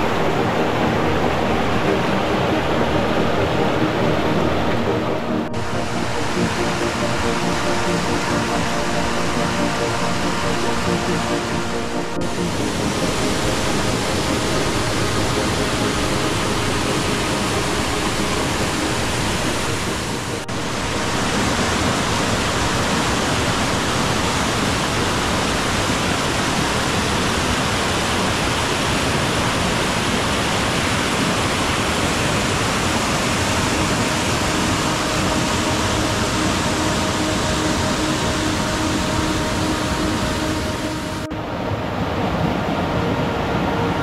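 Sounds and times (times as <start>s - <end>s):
stream rushing over boulders: 0.0s - 44.0s.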